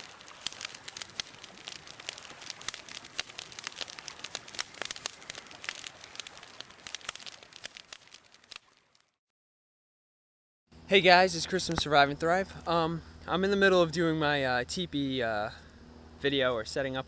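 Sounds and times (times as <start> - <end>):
campfire crackling: 0.0 - 9.2, 10.7 - 17.0.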